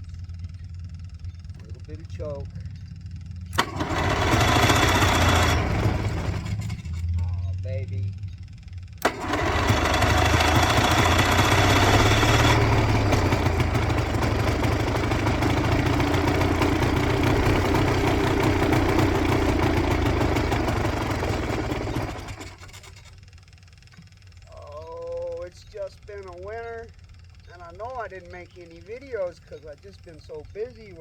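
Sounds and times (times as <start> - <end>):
two-stroke engine running: 0.0 - 31.0.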